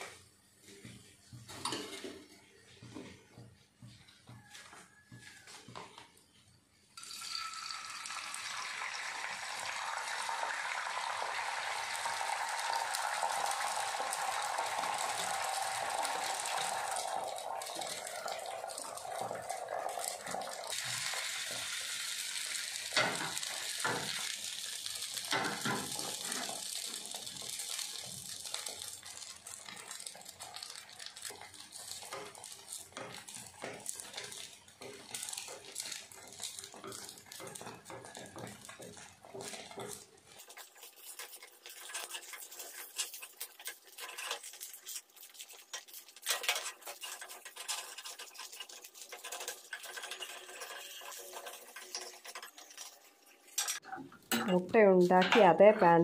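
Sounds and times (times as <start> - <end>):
wooden spatula on pan: 0.0 - 6.2, 11.4 - 56.0
egg sizzling in frying pan: 4.3 - 5.5, 7.0 - 56.0.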